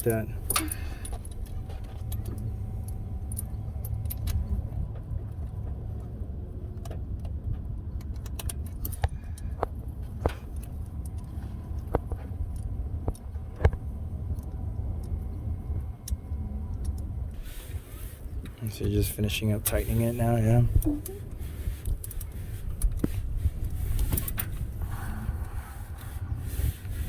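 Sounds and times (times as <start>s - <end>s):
low rumble: 0.0s - 8.2s, 9.2s - 18.6s, 20.2s - 27.0s.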